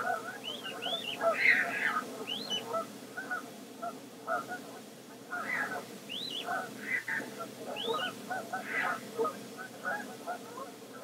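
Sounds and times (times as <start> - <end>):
waterbirds calling: 0.0 - 4.6, 5.2 - 10.8.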